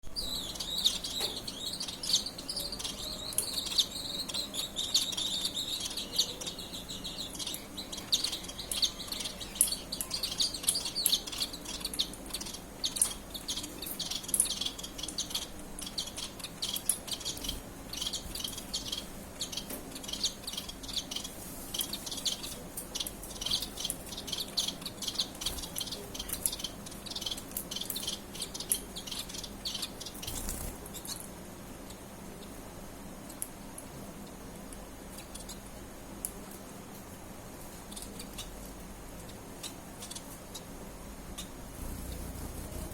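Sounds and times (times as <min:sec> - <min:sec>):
birds chirping: 0:00.0 - 0:33.4, 0:37.8 - 0:42.9.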